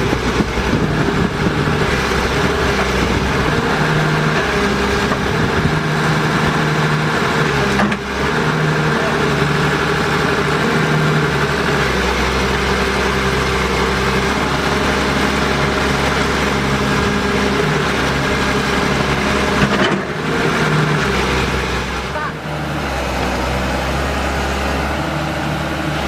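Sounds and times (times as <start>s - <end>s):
excavator diesel engine idling: 0.0s - 26.0s.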